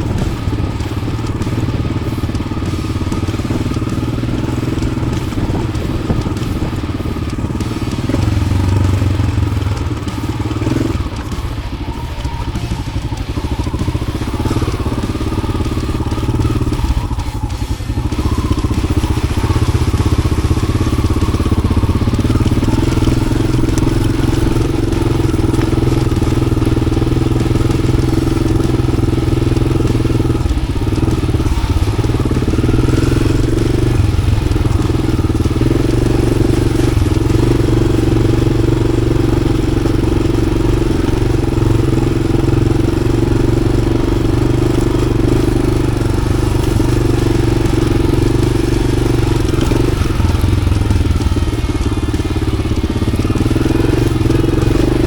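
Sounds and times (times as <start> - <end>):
motorcycle engine riding: 0.0 - 55.0.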